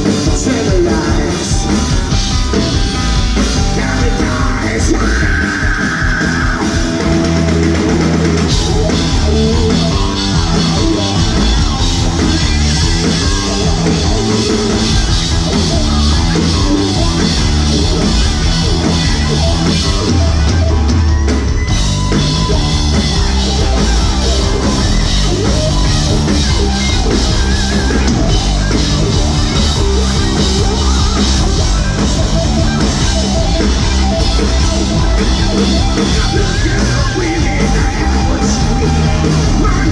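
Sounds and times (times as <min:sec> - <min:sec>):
bass guitar: 0:00.0 - 0:39.9
distorted electric guitars: 0:00.0 - 0:39.9
drum kit beat: 0:00.0 - 0:39.9.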